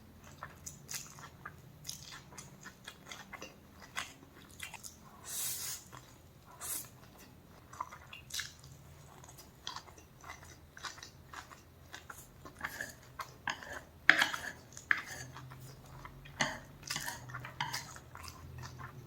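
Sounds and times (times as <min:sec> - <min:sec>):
person chewing crunchy food: 0:00.2 - 0:19.0.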